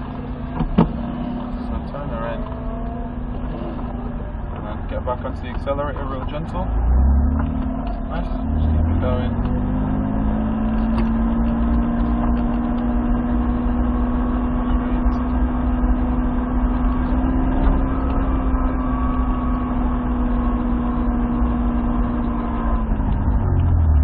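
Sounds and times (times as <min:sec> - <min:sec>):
car engine pulling steadily: 0:00.0 - 0:24.0
road and drivetrain rumble: 0:00.0 - 0:24.0.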